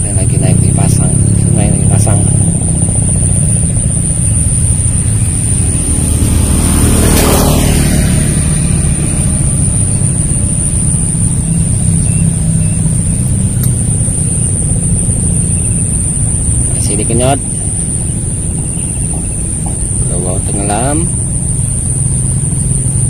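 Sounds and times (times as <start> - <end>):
motor engine humming: 0.0 - 23.0.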